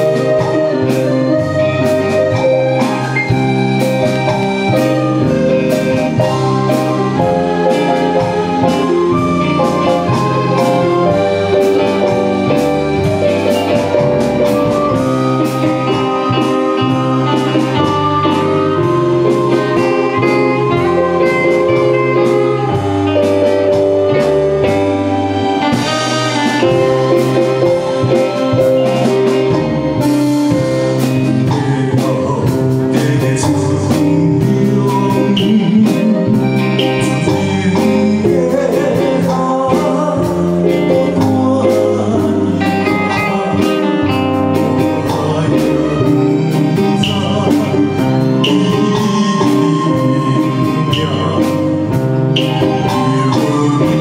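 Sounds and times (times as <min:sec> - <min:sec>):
man singing: 0:00.0 - 0:24.8, 0:25.7 - 0:54.0
live ensemble playing pop ballad: 0:00.0 - 0:54.0.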